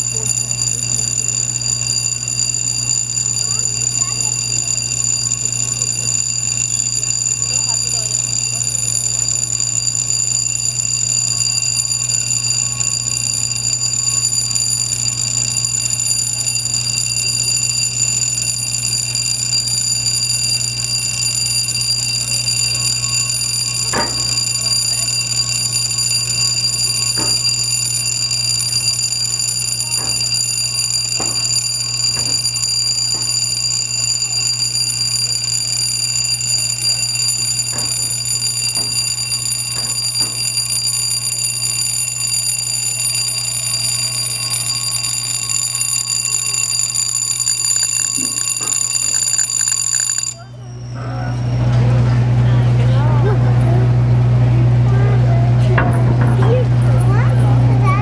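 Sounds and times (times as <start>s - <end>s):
warning alarm tone: 0.0s - 52.3s.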